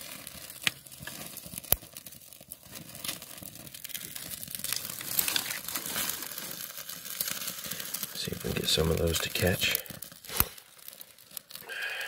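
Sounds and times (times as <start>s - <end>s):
dry twigs rustling and clicking: 0.0s - 12.0s.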